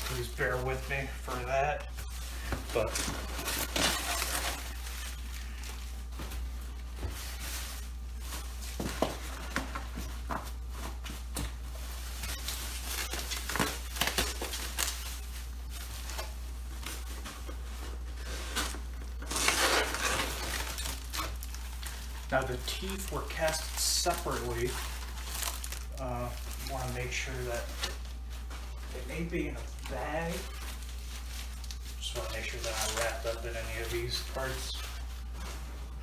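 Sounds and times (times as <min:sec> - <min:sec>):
bubble wrap crinkling: 0:00.0 - 0:36.0
low electrical hum: 0:00.0 - 0:36.0.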